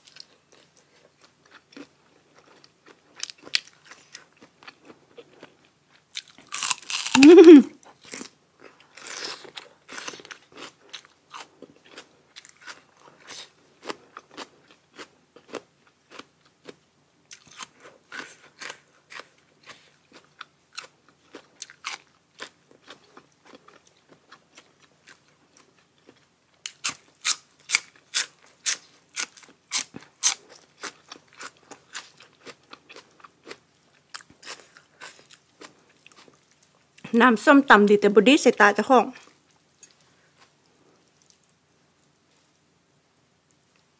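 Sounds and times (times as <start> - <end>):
chewing crisp food: 0.0 - 37.1, 39.2 - 42.7.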